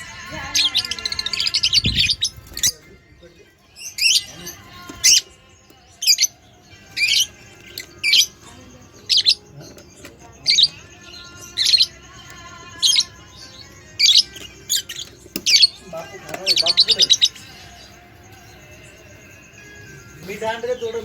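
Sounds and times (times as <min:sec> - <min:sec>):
budgerigar chirping: 0:00.4 - 0:02.9, 0:03.6 - 0:21.0.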